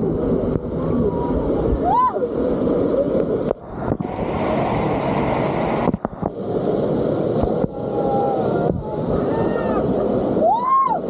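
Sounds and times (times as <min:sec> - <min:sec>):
waterfall crashing: 0:00.7 - 0:11.0.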